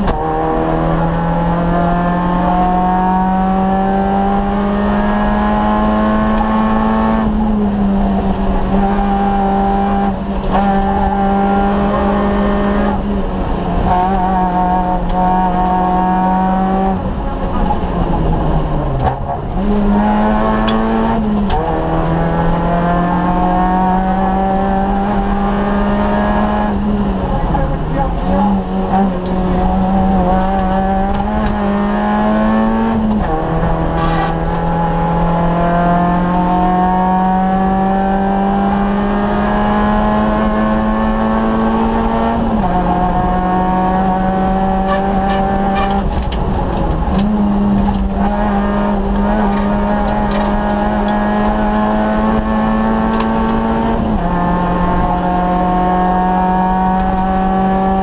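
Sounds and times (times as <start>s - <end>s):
car engine revving hard: 0.0s - 58.0s
sharp clicks and ticks from car: 6.3s - 38.1s, 38.8s - 58.0s.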